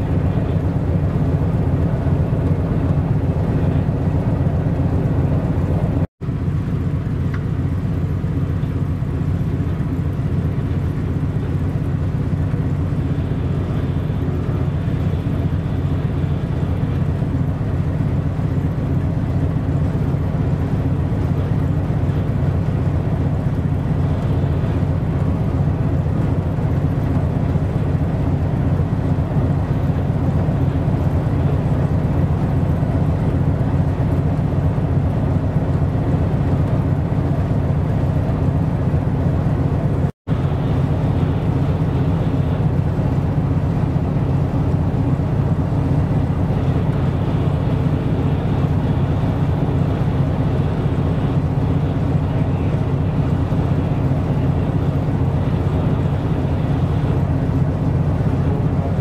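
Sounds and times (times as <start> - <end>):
ship diesel engine drone: 0.0 - 59.0.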